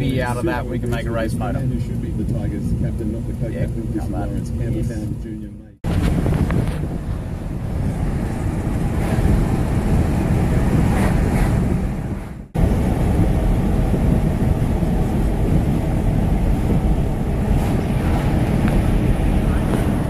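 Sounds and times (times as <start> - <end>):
road and wind noise: 0.0 - 20.0
wind buffeting microphone: 0.0 - 20.0.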